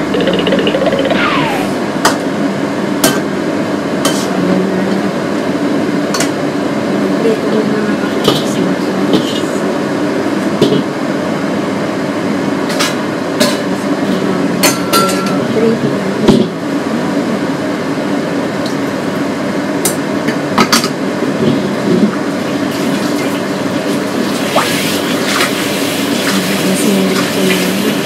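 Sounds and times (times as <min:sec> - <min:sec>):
steady kitchen hum: 0:00.0 - 0:28.0.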